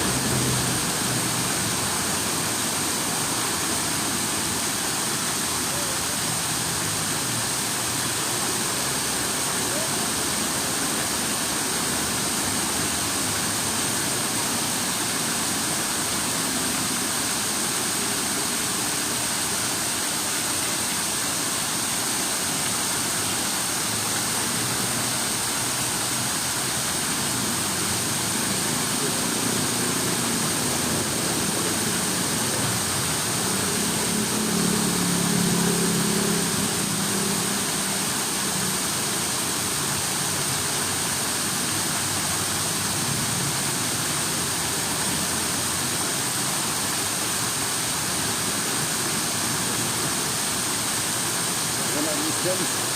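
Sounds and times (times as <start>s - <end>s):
flowing water: 0.0s - 52.9s.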